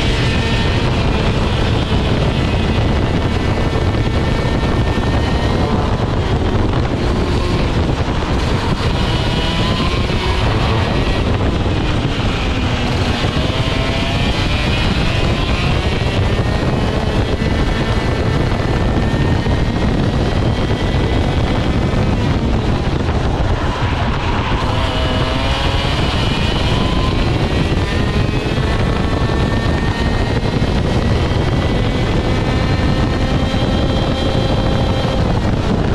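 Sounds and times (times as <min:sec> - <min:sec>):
kart engine accelerating and slowing: 0:00.0 - 0:35.9
wind buffeting microphone: 0:00.0 - 0:35.9.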